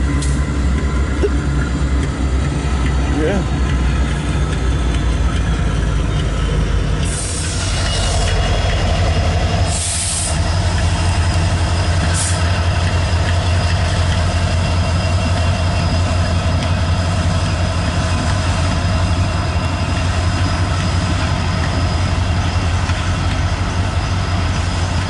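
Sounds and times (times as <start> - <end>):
diesel locomotive engine drone: 0.0 - 25.0
train cars rolling on rails: 0.0 - 25.0.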